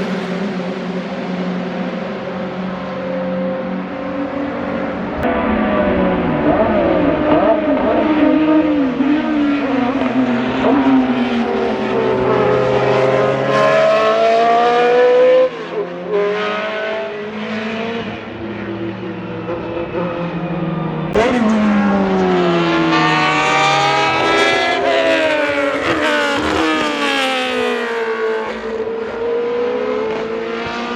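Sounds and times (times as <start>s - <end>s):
hard-revving engine: 0.0s - 30.9s
race car engine accelerating: 0.0s - 30.9s.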